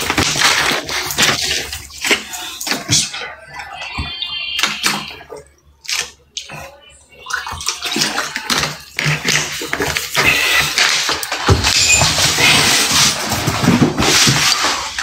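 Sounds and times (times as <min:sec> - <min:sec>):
water sloshing in plastic bottle: 0:00.0 - 0:15.0.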